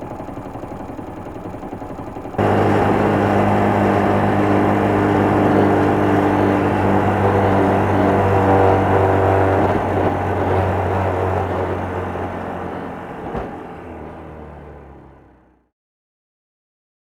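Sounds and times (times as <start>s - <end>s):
small motorcycle engine running: 0.0s - 15.6s.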